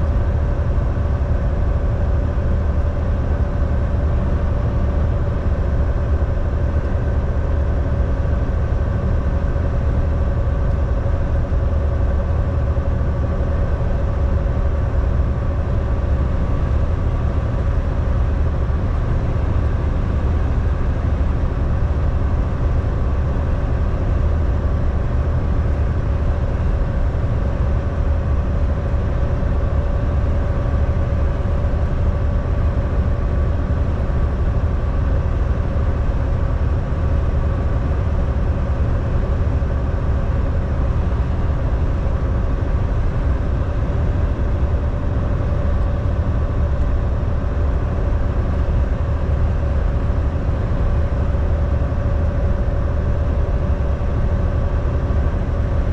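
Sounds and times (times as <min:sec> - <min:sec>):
diesel truck engine drone: 0:00.0 - 0:55.9
faint steady hum: 0:00.0 - 0:55.9.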